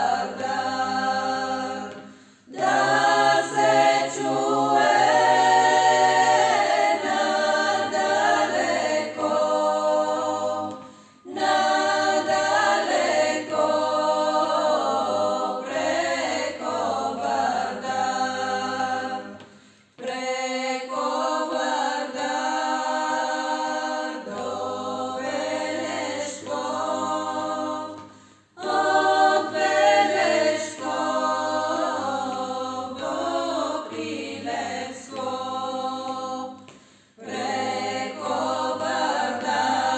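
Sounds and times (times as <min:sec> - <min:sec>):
group singing in harmony: 0:00.0 - 0:39.9.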